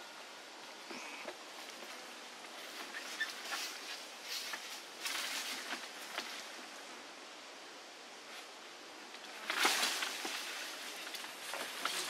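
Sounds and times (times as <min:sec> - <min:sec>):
outdoor rustling and hiss: 0:00.0 - 0:12.0.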